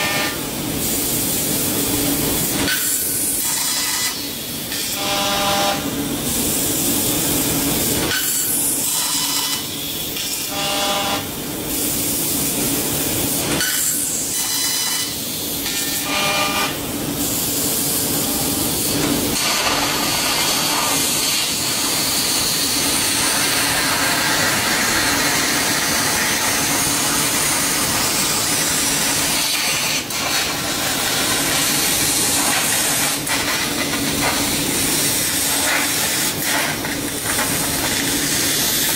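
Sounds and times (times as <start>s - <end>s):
laser gas jet hissing: 0.0s - 5.0s, 5.7s - 38.9s.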